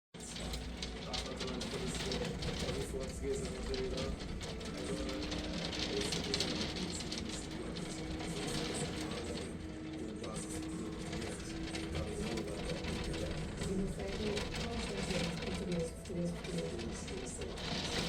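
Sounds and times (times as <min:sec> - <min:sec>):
hail rattling on hard surfaces: 0:00.2 - 0:18.0.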